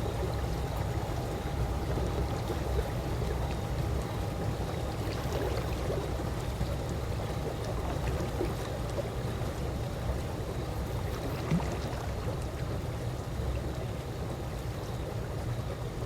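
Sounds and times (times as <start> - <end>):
pool water lapping: 1.9 - 16.0.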